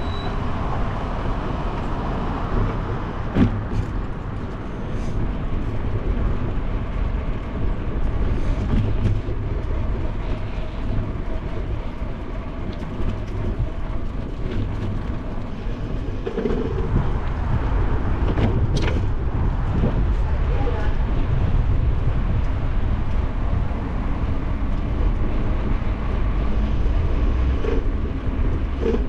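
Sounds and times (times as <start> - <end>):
bicycle rolling over paving: 0.6 - 29.0.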